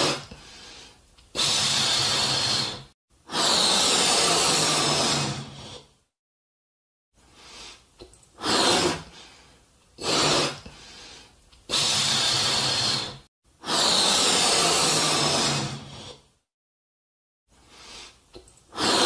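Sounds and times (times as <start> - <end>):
breath blown into balloons: 0.0 - 6.1, 7.2 - 16.4, 17.5 - 19.0.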